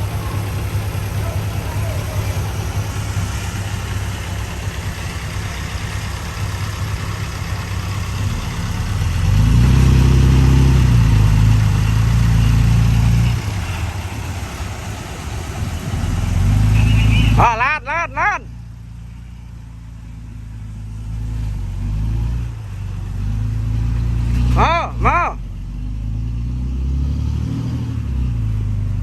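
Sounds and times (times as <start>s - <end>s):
heavy machine diesel engine running: 0.0s - 25.7s.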